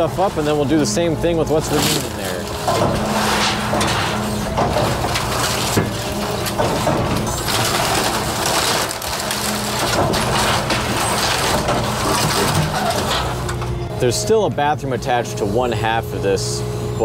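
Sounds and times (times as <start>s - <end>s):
wood splintering and crunching: 0.0s - 14.7s
excavator diesel engine running: 0.0s - 17.0s.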